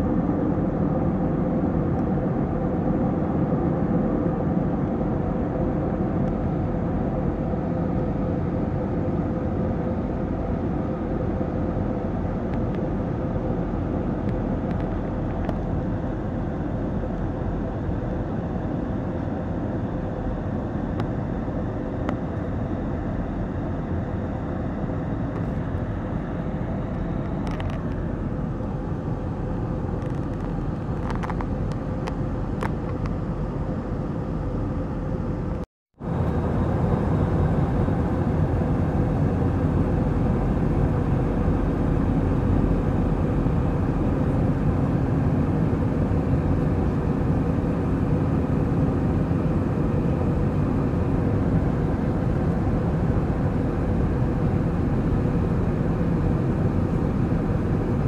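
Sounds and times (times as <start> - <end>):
jet airliner cabin noise: 0.0 - 58.0.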